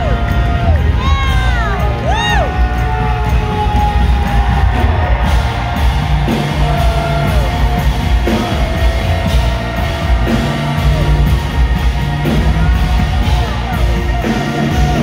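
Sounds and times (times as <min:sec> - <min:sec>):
marching bass drum: 0:00.0 - 0:15.0.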